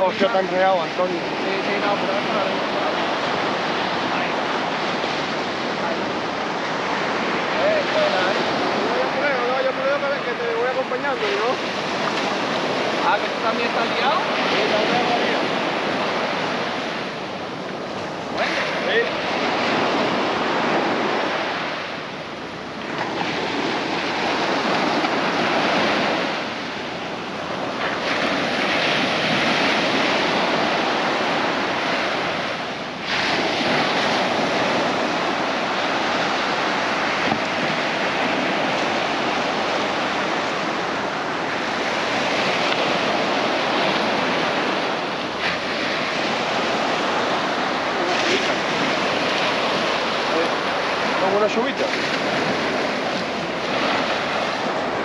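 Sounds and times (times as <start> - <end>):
waves breaking on beach: 0.0 - 55.0
wind on microphone: 0.0 - 55.0.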